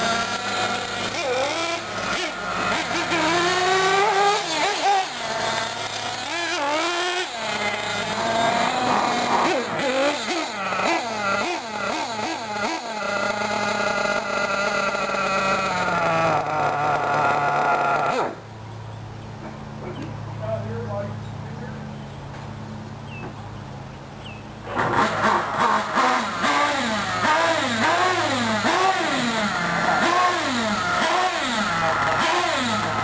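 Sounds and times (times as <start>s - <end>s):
nitro engines revving: 0.0s - 21.8s, 24.3s - 33.0s.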